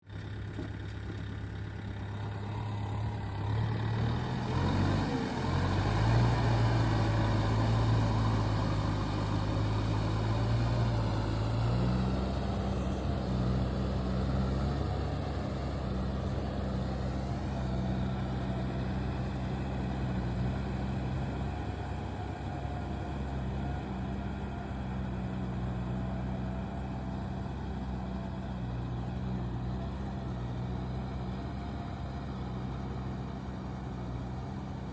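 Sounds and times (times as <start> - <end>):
heavy diesel engine running: 0.1 - 34.9.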